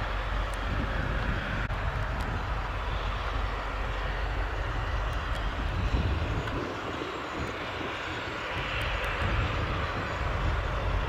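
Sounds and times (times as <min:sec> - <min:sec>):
steady engine noise: 0:00.0 - 0:11.0.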